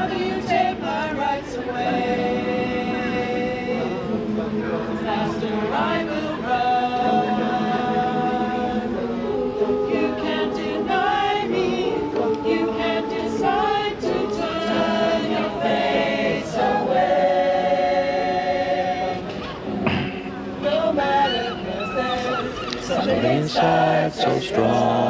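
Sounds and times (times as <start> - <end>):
choir singing in harmony: 0.0 - 25.0.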